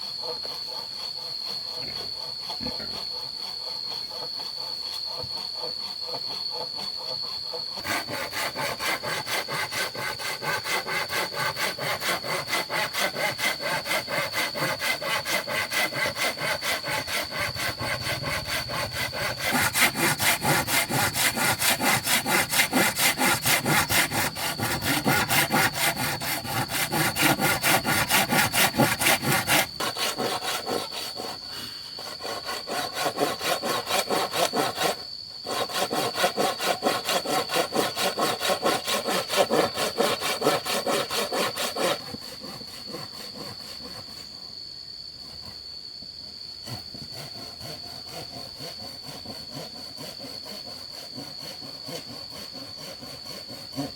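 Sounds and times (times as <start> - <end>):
hand saw cutting bamboo: 0.0 - 44.4, 46.6 - 53.9.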